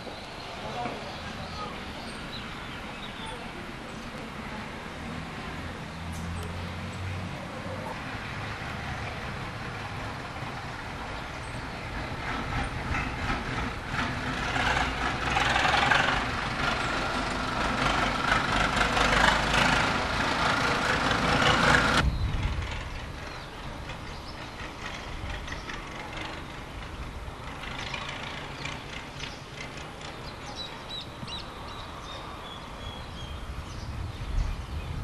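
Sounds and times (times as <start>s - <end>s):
train rumbling by: 0.0s - 35.0s.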